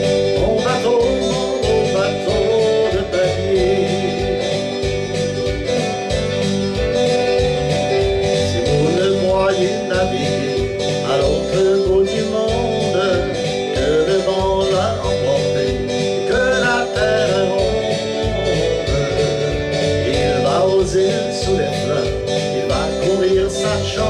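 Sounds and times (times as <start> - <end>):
man singing: 0.0 - 5.4, 8.2 - 24.0
country backing track with guitar: 0.0 - 24.0.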